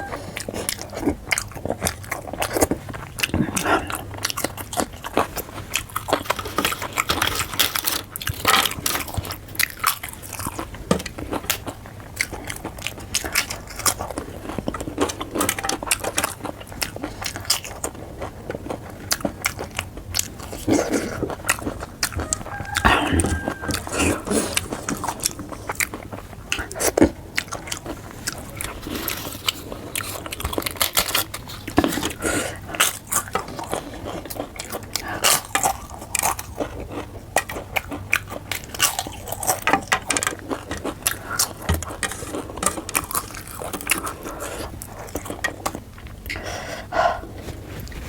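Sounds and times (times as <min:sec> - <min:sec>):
chewing and biting: 0:00.0 - 0:48.0.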